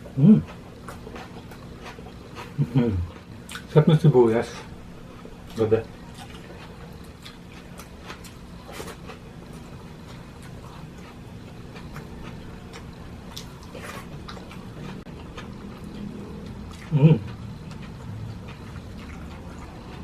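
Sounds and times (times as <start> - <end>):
faint steady hum: 0.0 - 20.0
chewing and mouth smacks: 0.4 - 3.7, 5.1 - 20.0.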